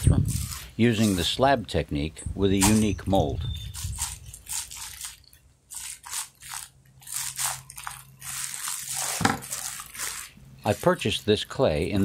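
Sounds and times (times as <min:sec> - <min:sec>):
plastic bag crinkling: 0:00.0 - 0:01.4, 0:02.6 - 0:11.2.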